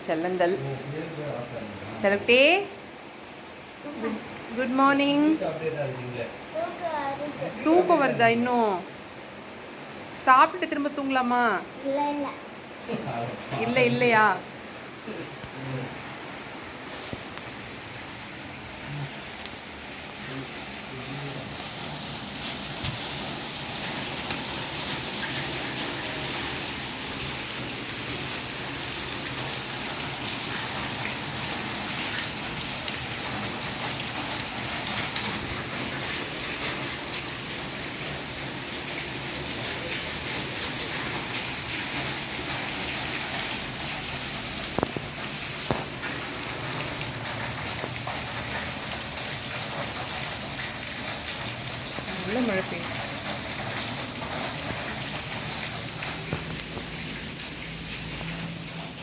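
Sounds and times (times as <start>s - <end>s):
heavy rain on surfaces: 0.0s - 59.0s.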